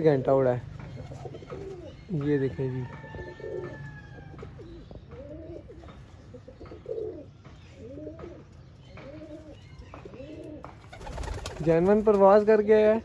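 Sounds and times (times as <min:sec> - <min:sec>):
pigeons cooing: 0:00.7 - 0:11.9.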